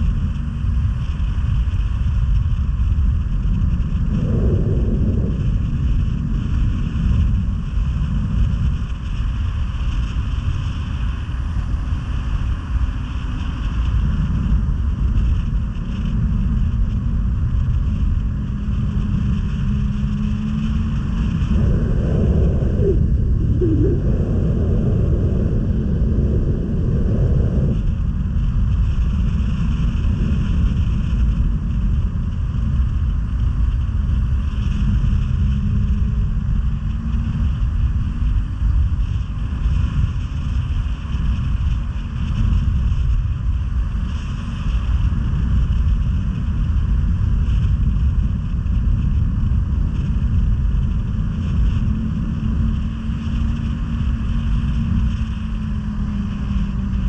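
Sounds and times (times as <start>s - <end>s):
snowmobile engine rumble: 0.0s - 57.0s.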